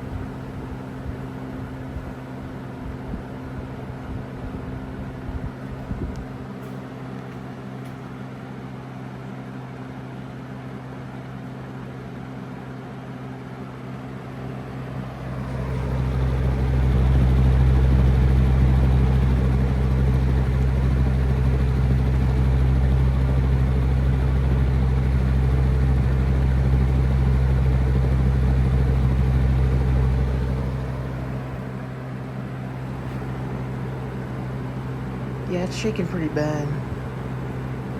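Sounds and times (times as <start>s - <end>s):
fan shaking with low rumble: 0.0s - 8.0s, 14.2s - 37.9s
box fan motor humming: 0.0s - 8.5s, 13.9s - 37.9s.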